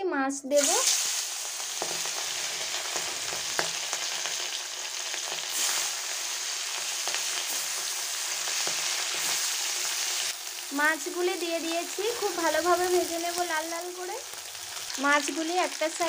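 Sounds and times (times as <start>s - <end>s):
fish frying in hot oil: 0.6s - 16.0s.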